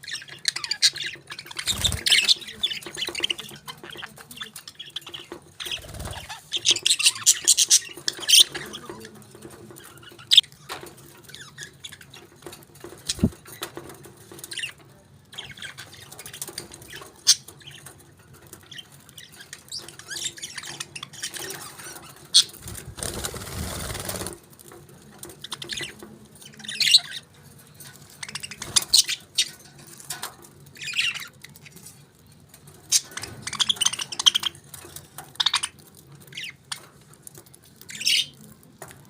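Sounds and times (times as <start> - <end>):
parakeets chirping: 0.0 - 24.4, 25.2 - 37.0, 37.7 - 38.6.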